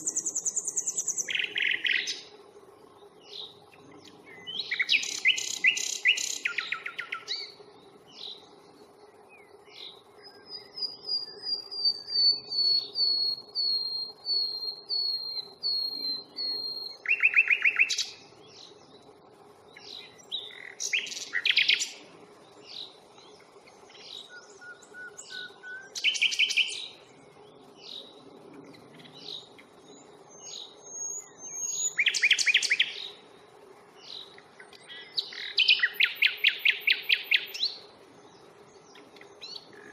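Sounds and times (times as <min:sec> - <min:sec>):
nightingale singing: 0:00.0 - 0:02.4, 0:03.0 - 0:33.4, 0:34.0 - 0:39.9
faint low hum: 0:00.0 - 0:32.1.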